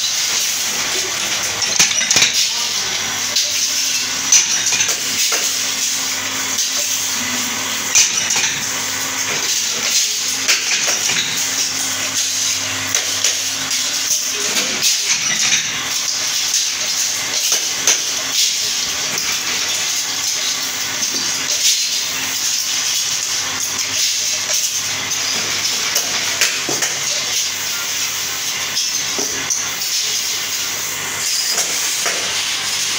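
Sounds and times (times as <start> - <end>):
hiss of workshop machinery: 0.0 - 32.9.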